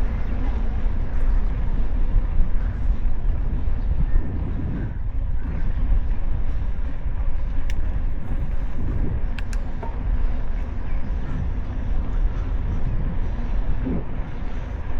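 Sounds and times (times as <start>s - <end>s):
road rumble: 0.0s - 14.9s
wind buffeting microphone: 0.0s - 14.9s.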